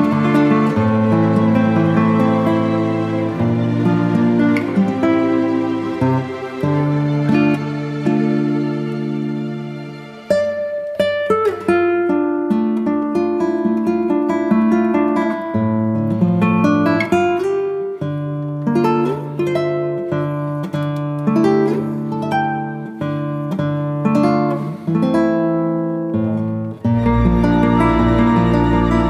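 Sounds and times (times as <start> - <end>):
plucked acoustic guitar melody: 0.0 - 29.0.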